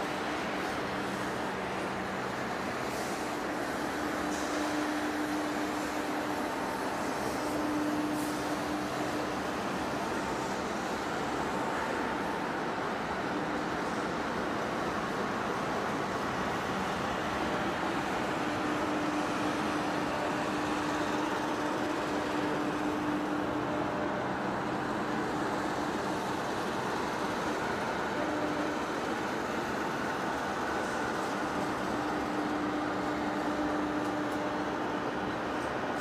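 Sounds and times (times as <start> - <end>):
lathe motor droning: 0.0 - 12.2, 16.9 - 36.0.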